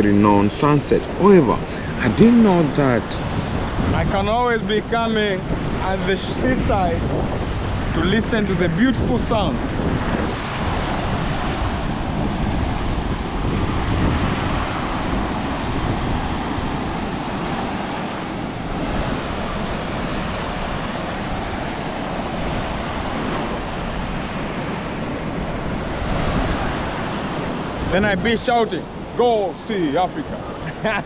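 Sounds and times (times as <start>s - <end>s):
surf washing up a beach: 0.0s - 31.0s
wind on microphone: 0.0s - 31.0s.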